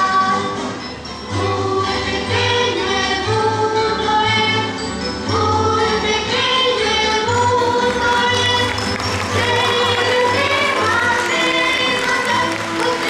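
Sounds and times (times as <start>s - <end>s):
choir-like singing: 1.3s - 4.7s, 5.4s - 13.0s.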